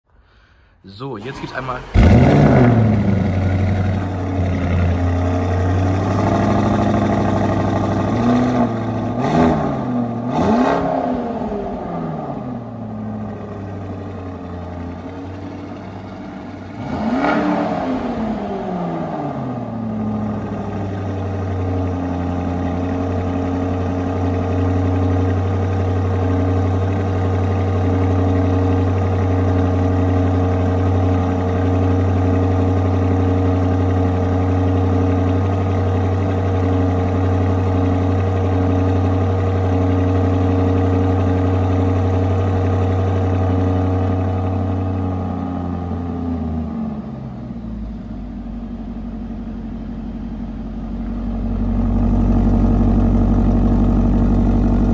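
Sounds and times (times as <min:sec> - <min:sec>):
car engine idling: 0:00.1 - 0:54.9.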